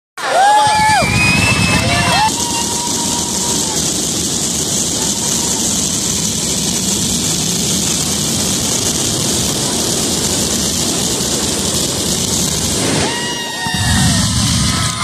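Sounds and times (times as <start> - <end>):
fireworks crackling and hissing: 0.3 - 15.0.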